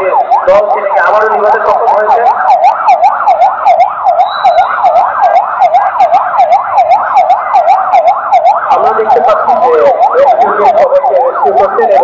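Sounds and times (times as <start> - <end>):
electronic siren yelping: 0.0 - 12.0.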